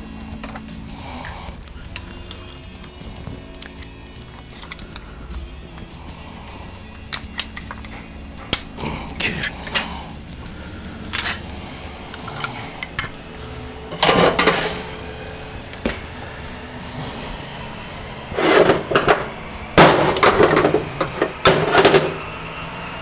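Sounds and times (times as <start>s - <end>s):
heavy metal parts clanking: 0.0s - 23.0s.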